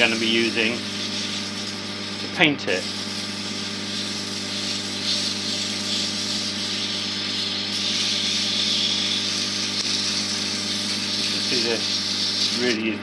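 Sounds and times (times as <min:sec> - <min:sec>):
sandpaper hissing on wood: 0:00.0 - 0:13.0
wood lathe humming: 0:00.0 - 0:13.0.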